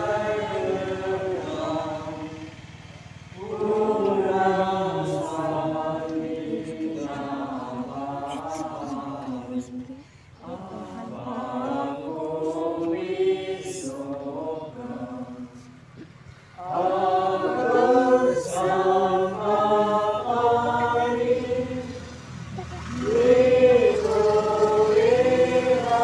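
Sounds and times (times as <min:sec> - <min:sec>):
group singing a hymn: 0:00.0 - 0:26.0.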